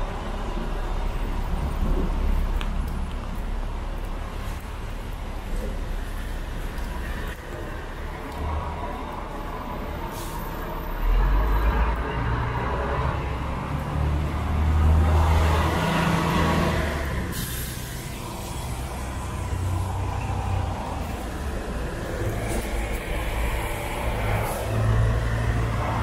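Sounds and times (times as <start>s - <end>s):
heavy vehicle engine rumbling: 0.0s - 26.0s
tyres hissing on wet road: 0.0s - 26.0s.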